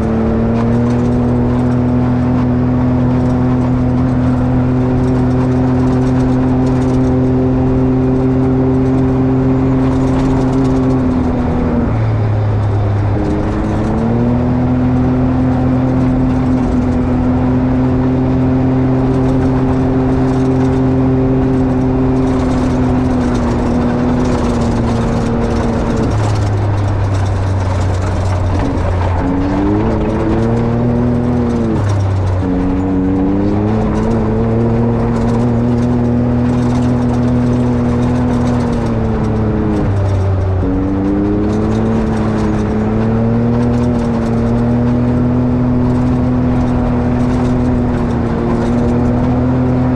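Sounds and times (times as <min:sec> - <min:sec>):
vehicle engine running: 0:00.0 - 0:49.9.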